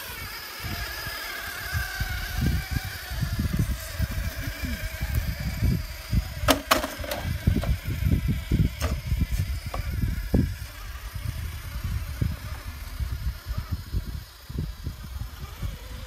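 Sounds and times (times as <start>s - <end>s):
high motor whine: 0.0s - 16.0s
low rumbling: 0.0s - 16.0s.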